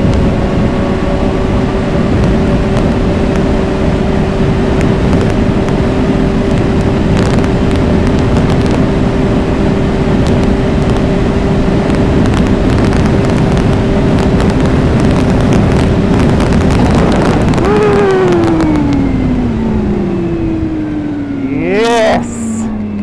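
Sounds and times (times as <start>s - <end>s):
low rumble of track on snow: 0.0s - 23.0s
snowmobile engine at high speed: 0.0s - 23.0s.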